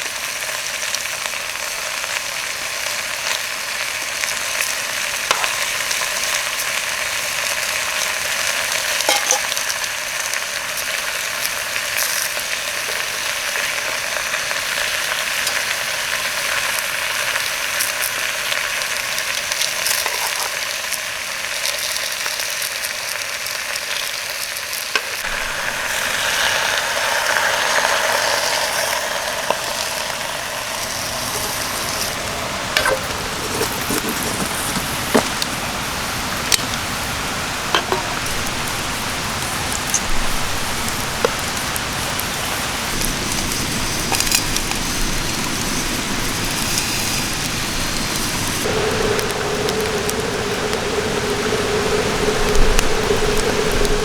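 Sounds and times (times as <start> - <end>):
food sizzling over campfire: 0.0 - 54.0.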